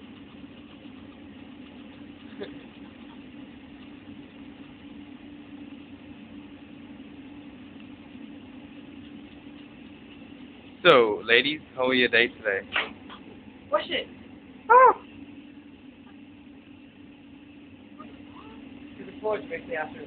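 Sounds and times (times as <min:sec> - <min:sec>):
machinery humming and hissing: 0:00.0 - 0:20.0.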